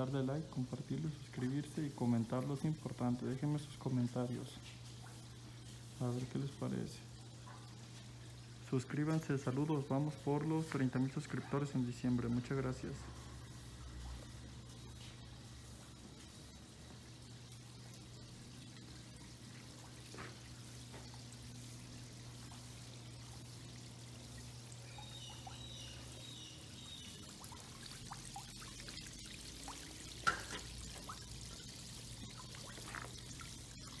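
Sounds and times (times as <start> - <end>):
fountain water pouring and trickling: 0.0 - 34.0.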